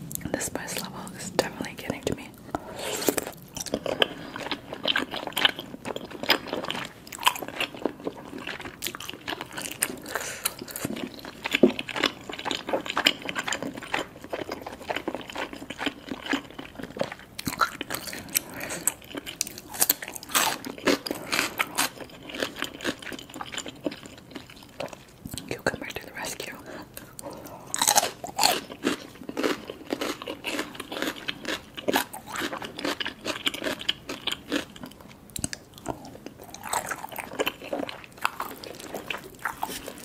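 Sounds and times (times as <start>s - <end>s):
chewing noodles: 2.5s - 40.0s
crunching cucumber bites: 3.1s - 25.4s, 27.0s - 40.0s.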